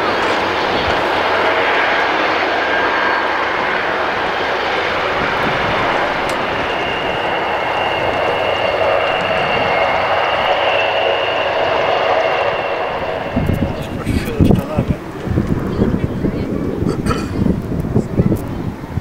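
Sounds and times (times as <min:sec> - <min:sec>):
thin high whine: 0:00.0 - 0:15.8
aircraft engine noise: 0:00.0 - 0:19.0.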